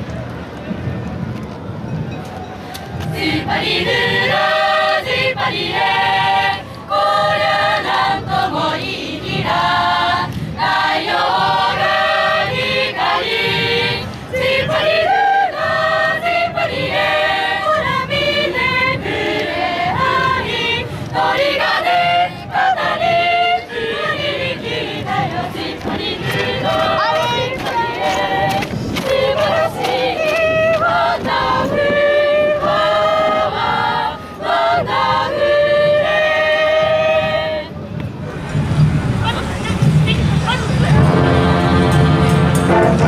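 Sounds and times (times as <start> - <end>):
choir singing unaccompanied: 2.9 - 43.0.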